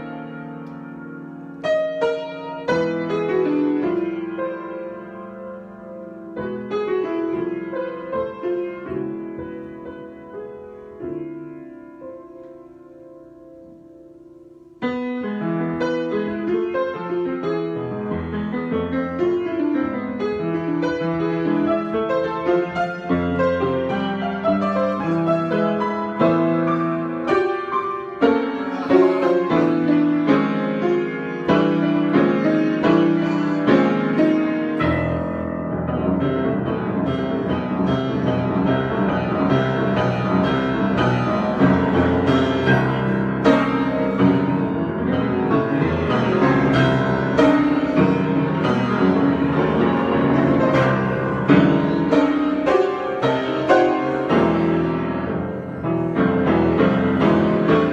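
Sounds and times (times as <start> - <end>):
solo piano improvisation: 0.0 - 57.9.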